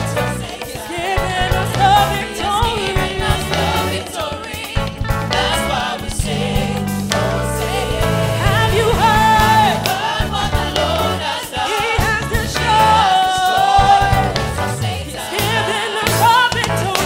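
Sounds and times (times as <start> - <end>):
drums: 0.0 - 17.0
voices singing together: 0.0 - 17.0.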